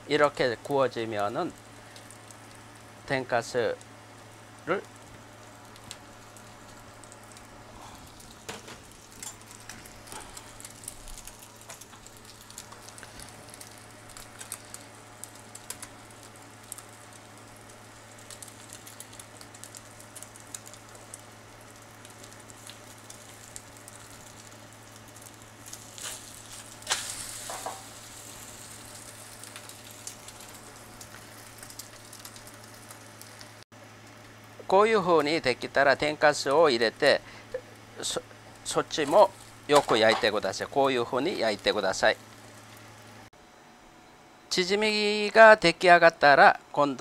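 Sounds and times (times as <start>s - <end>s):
pancake sizzling in oil: 0.4s - 35.4s, 36.8s - 43.3s.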